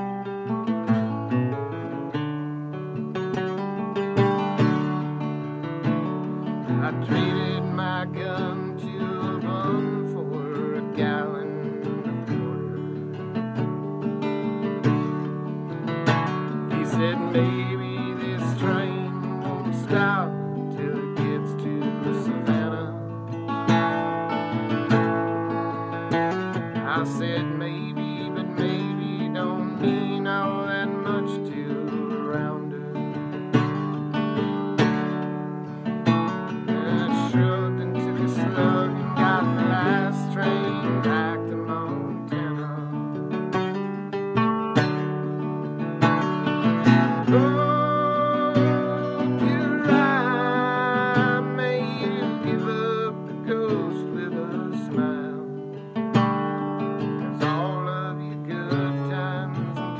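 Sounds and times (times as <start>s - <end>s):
acoustic guitar strumming: 0.0s - 59.9s
man singing: 6.5s - 35.2s, 36.0s - 43.8s, 45.7s - 56.3s, 57.0s - 59.9s.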